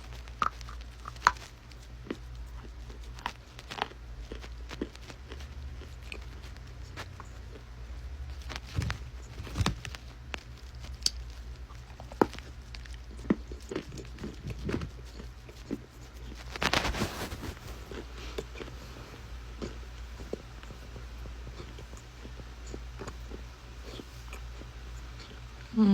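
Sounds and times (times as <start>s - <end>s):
clay being chewed: 0.0s - 25.7s
steady low hum: 0.0s - 25.9s.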